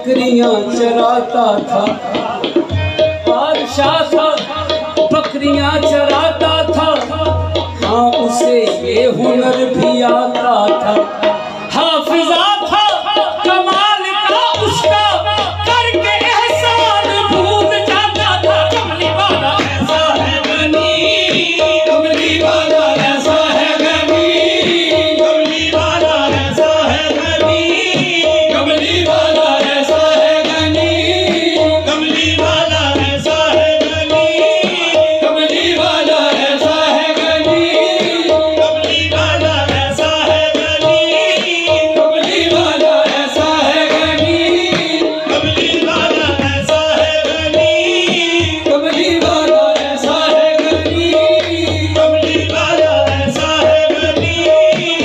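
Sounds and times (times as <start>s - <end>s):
harmoniums playing: 0.0s - 55.0s
tabla rhythm: 0.0s - 55.0s.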